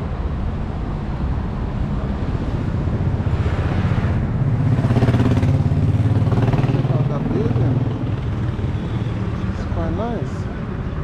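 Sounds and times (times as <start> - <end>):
vehicle engine passing: 0.9 - 10.5.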